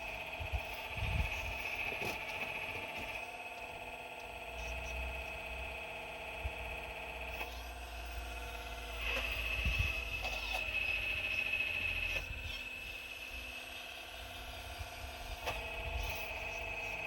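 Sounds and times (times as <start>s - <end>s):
excavator whine and rumble: 0.0s - 17.0s.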